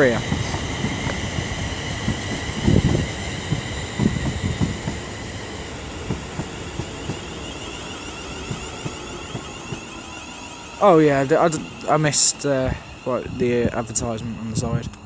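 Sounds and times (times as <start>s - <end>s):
train motor whine: 0.0s - 15.0s
train wheels knocking over rail joints: 0.0s - 15.0s.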